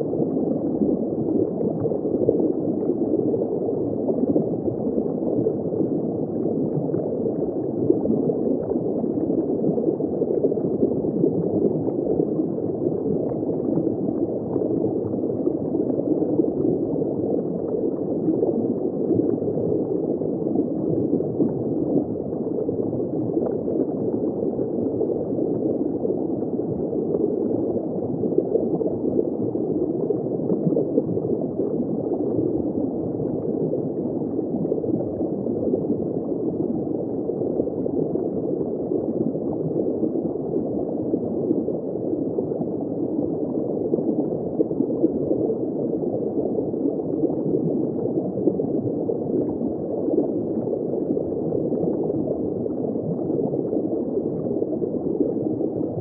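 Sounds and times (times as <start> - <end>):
underwater bubbling and water flow: 0.0 - 56.0.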